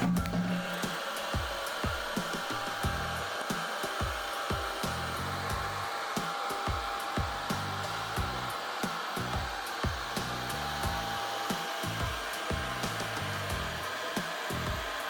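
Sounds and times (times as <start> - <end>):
background music with beat: 0.0 - 15.0
hair dryer blowing: 0.0 - 15.0
hair dryer motor whine: 0.0 - 15.0.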